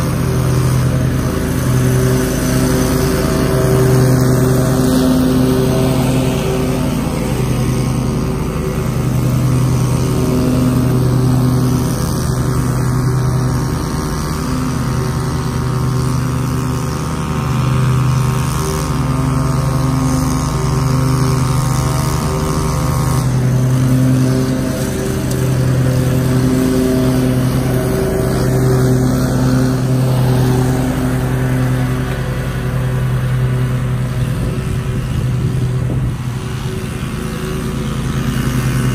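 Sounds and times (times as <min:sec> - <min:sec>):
lawn mower engine running: 0:00.0 - 0:38.9
string trimmer engine running: 0:00.0 - 0:38.9.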